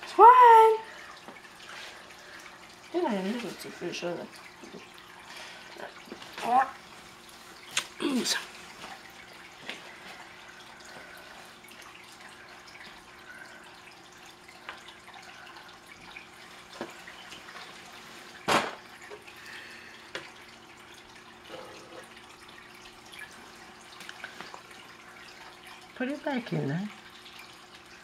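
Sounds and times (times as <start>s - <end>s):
aquarium water trickling: 0.0s - 28.0s
faint steady hum: 0.0s - 28.0s.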